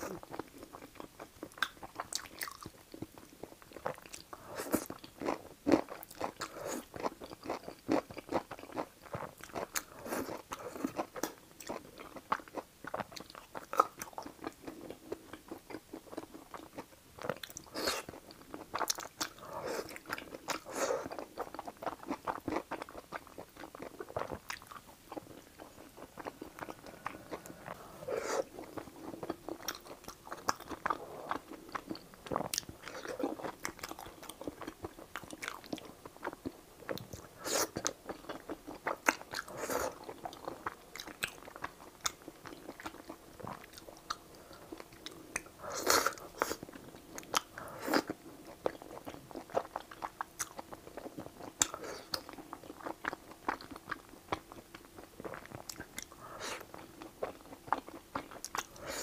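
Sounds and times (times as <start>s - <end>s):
person chewing noodles: 0.0s - 59.0s.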